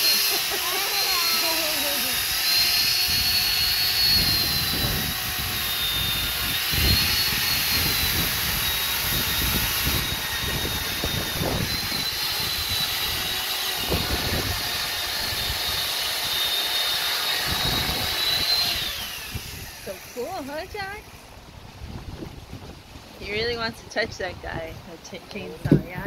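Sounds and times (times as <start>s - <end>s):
electric chainsaw cutting wood: 0.0s - 21.4s.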